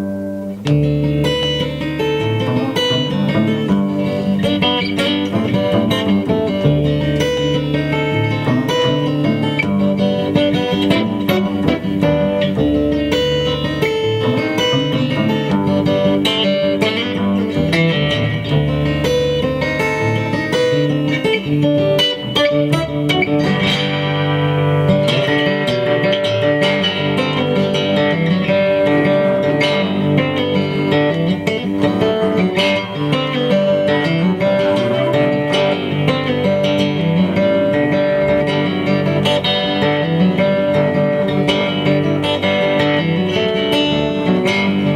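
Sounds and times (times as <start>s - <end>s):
live americana band music: 0.0s - 44.9s
picked acoustic guitar: 0.0s - 44.9s.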